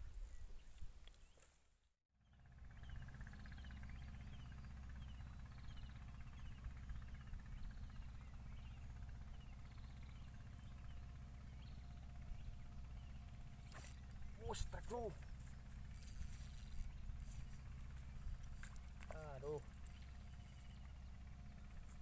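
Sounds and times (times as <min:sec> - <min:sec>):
low steady rumble: 0:02.2 - 0:22.0
birds chirping: 0:02.6 - 0:22.0.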